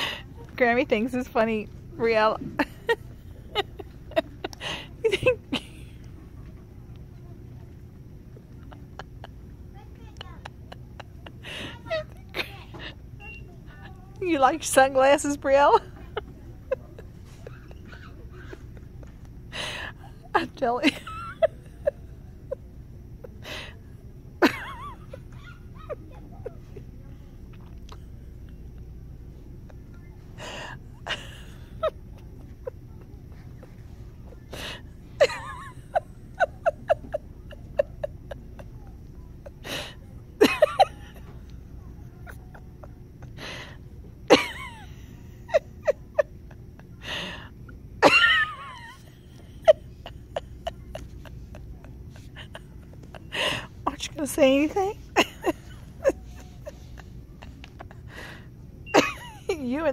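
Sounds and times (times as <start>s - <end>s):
low background hum: 0.0s - 59.9s.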